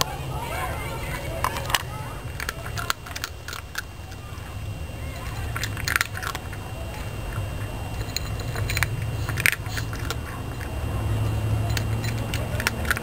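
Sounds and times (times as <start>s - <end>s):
cat crunching dry kibble: 0.0s - 13.0s
steady low hum: 0.0s - 13.0s.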